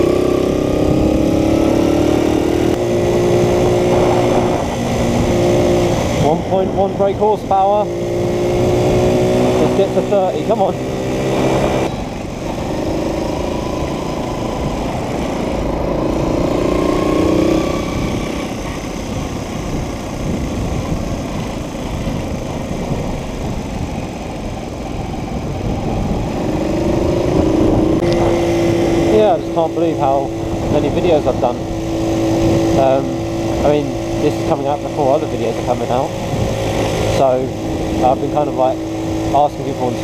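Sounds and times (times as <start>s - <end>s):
moped engine running: 0.0s - 40.0s
wind and road noise: 0.0s - 40.0s.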